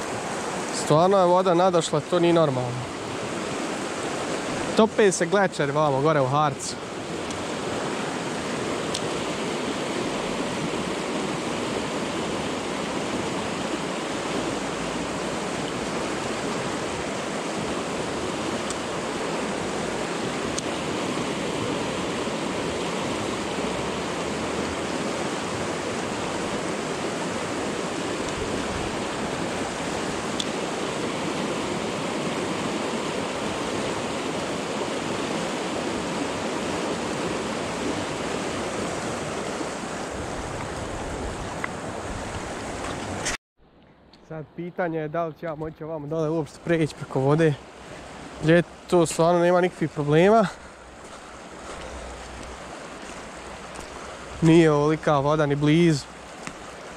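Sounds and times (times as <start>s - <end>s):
river rushing: 0.0s - 43.4s, 44.9s - 56.9s.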